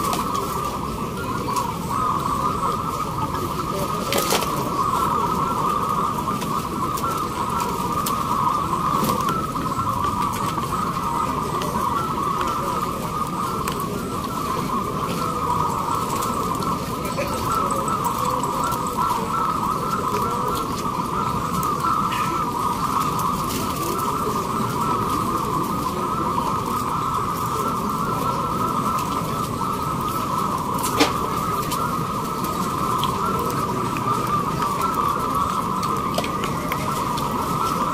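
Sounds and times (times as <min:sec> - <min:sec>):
doves cooing: 0:00.0 - 0:37.9
low background murmur: 0:00.0 - 0:37.9
low background noise: 0:00.0 - 0:37.9.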